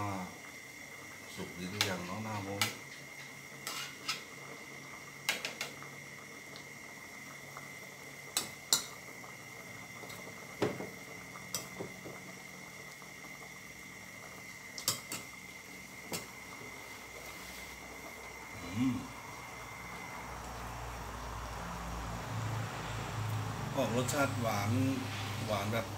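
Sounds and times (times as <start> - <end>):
pot simmering: 0.0 - 25.9.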